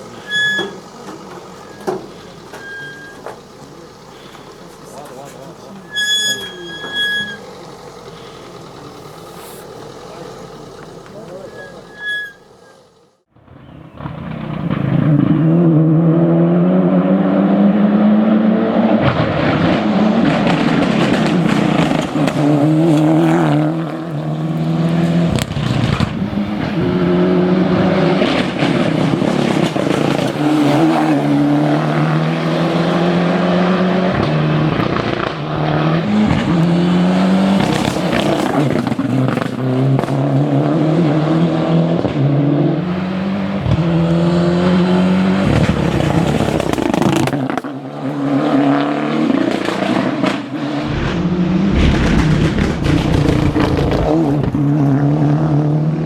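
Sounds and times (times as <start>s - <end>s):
rally car engine accelerating: 0.0s - 56.0s.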